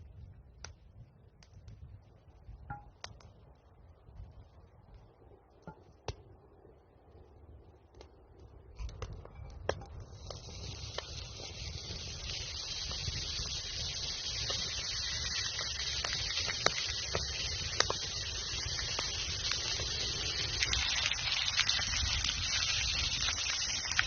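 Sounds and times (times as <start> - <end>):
campfire crackling and popping: 0.0 - 6.4, 7.2 - 24.0.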